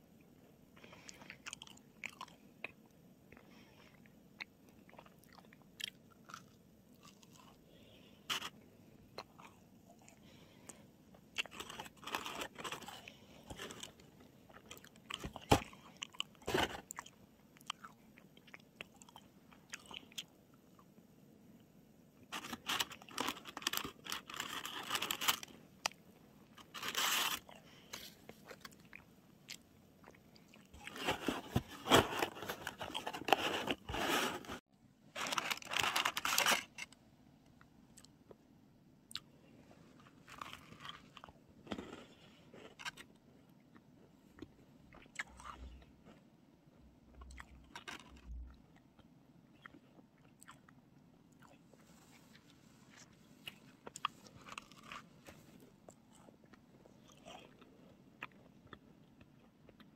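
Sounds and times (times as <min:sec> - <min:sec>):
macarons crunching while chewed: 0:00.8 - 0:21.0, 0:22.2 - 0:34.5, 0:35.2 - 0:37.0, 0:40.0 - 0:46.3, 0:47.1 - 0:59.9.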